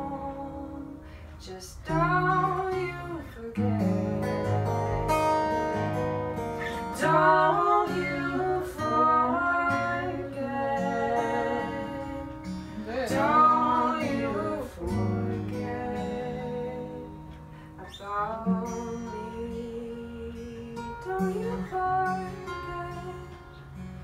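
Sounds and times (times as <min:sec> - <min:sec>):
person singing: 0:00.0 - 0:06.0, 0:06.6 - 0:23.7
acoustic guitar playing: 0:00.0 - 0:24.0.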